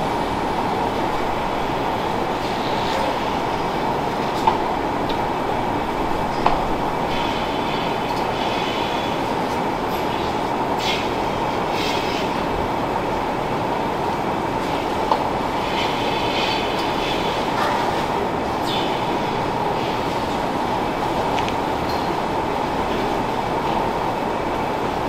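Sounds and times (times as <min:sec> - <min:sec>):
faint steady whine: 0:00.0 - 0:25.0
milking machinery running: 0:00.0 - 0:25.0.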